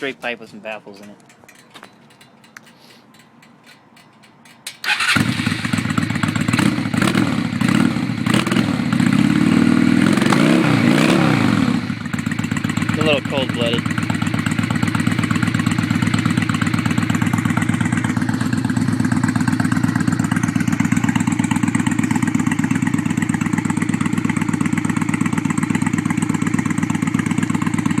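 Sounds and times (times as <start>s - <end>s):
motorcycle engine idling unevenly: 0.9s - 10.3s, 11.7s - 28.0s.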